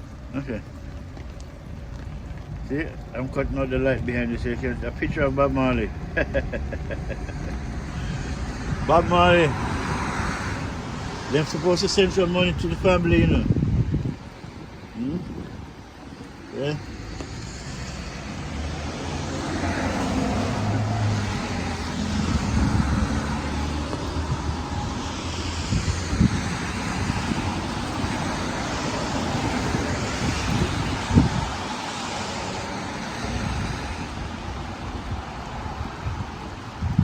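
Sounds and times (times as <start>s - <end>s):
cars driving past: 0.0s - 37.0s.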